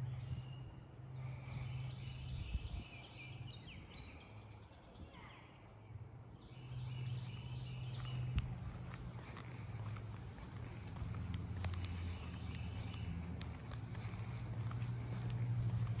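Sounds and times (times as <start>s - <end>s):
birds chirping and singing: 0.0s - 5.8s, 6.4s - 16.0s.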